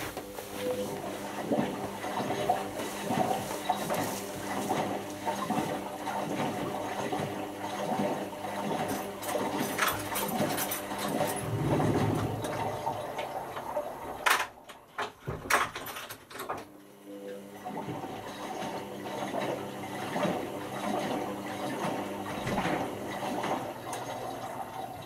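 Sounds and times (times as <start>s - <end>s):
washing machine water rush: 0.0s - 25.0s.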